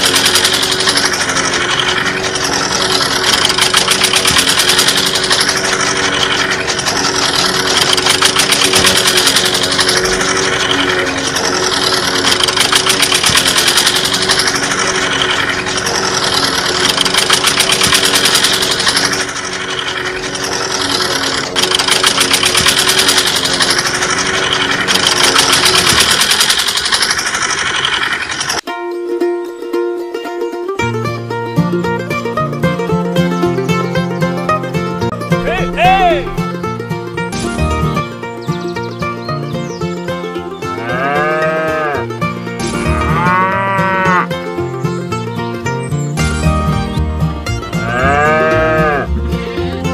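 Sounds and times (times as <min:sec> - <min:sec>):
model chaff cutter running: 0:00.0 - 0:28.7, 0:33.5 - 0:49.9
small diesel engine ticking: 0:00.0 - 0:49.9.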